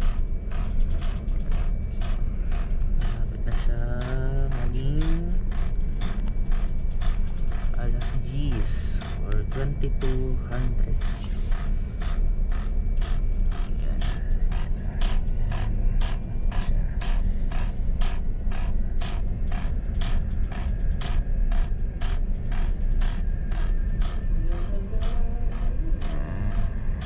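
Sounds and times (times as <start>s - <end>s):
low machinery hum: 0.0s - 27.0s
rapid mechanical ticking: 0.0s - 27.0s.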